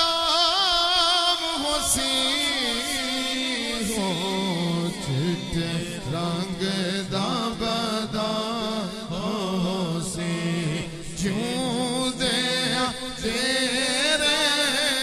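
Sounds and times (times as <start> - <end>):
man singing: 0.0 - 15.0.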